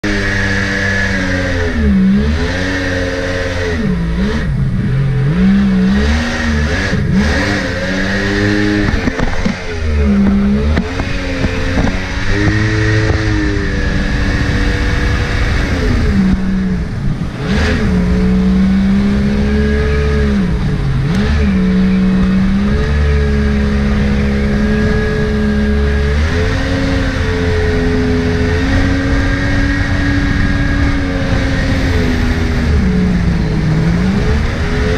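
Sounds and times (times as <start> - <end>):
jet boat engine revving: 0.0 - 34.9.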